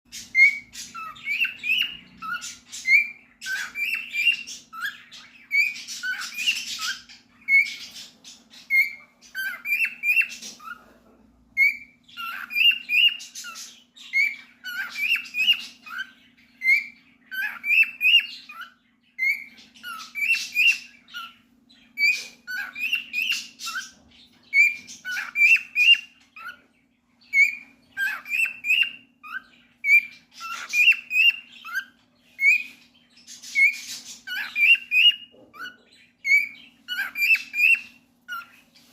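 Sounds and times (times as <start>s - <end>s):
cockatiel whistling and squawking: 0.1s - 11.0s, 11.6s - 38.9s
faint low hum: 0.1s - 38.9s.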